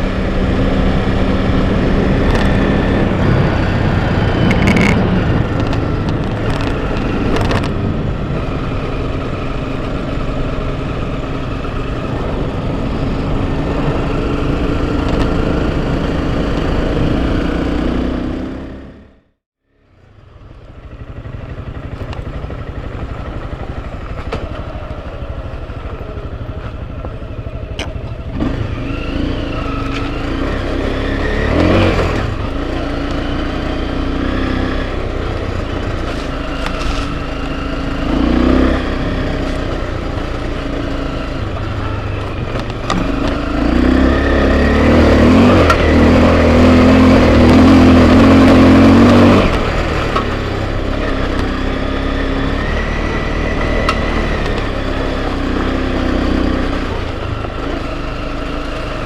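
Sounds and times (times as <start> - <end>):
dirt bike engine revving: 0.0 - 19.1, 28.2 - 59.0.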